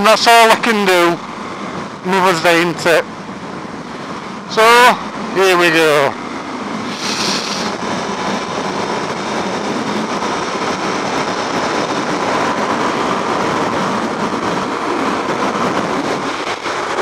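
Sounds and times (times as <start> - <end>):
wind noise on microphone: 3.1 - 17.0.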